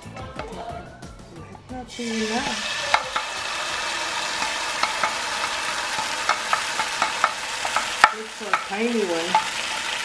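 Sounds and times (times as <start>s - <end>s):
utensil tapping pan: 1.5s - 10.0s
oil sizzling in a frying pan: 1.8s - 10.0s.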